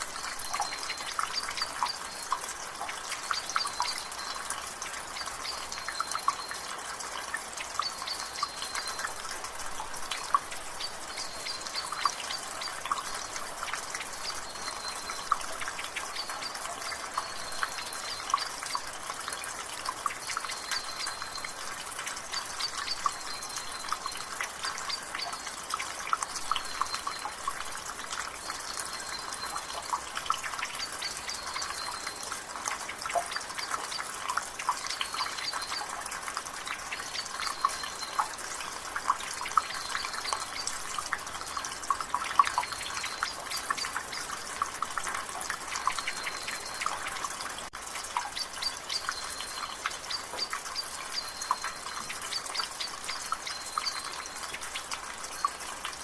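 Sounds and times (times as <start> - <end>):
light rain patter: 0.0 - 56.0
water dripping from a gutter: 0.0 - 56.0.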